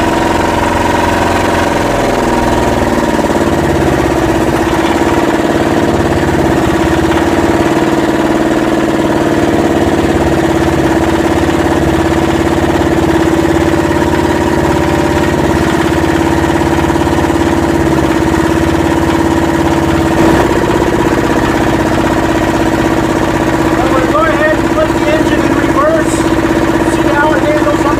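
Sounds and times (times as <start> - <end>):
marine diesel engine idling: 0.0 - 27.9.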